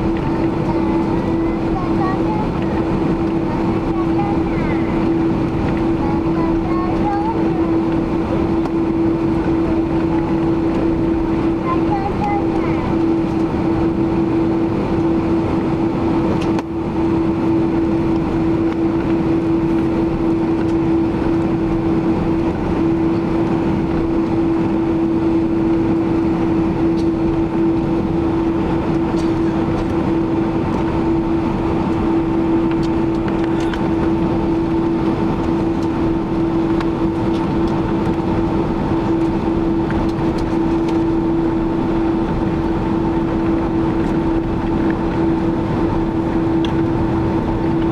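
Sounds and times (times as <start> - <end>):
jet engines in airplane cabin: 0.0 - 47.9.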